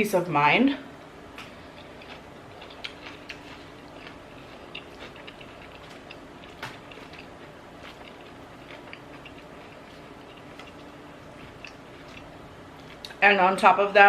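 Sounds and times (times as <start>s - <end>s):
person chewing food: 1.4s - 13.2s.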